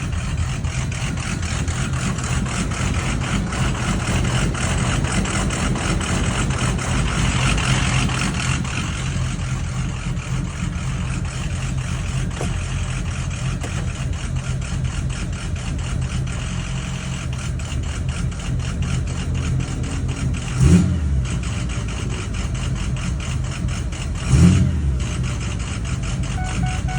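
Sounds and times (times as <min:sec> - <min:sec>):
diesel engine idling: 0:00.0 - 0:26.9.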